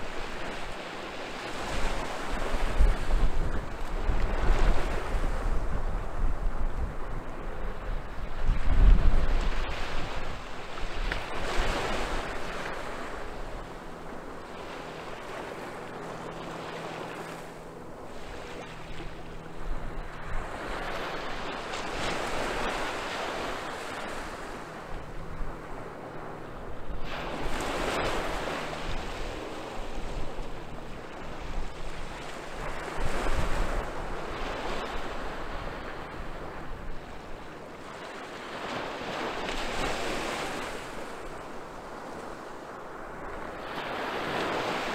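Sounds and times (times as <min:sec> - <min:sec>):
waves breaking on beach: 0:00.0 - 0:44.9
wind rumble on microphone: 0:00.0 - 0:44.9.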